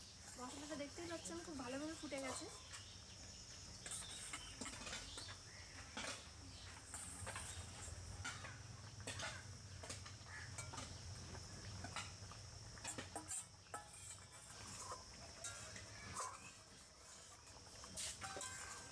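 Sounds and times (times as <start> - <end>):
gravy boiling with pops and crackles: 0.0 - 18.9.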